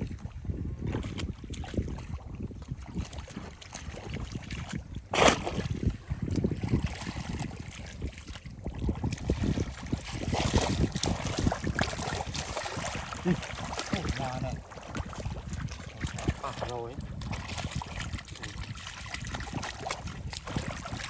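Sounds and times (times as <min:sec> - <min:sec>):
water sloshing and splashing: 0:00.0 - 0:21.0.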